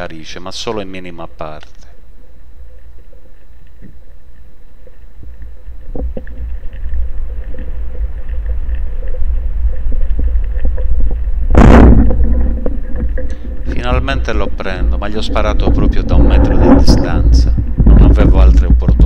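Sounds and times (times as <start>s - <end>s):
underwater rumble of moving water: 2.0s - 19.0s.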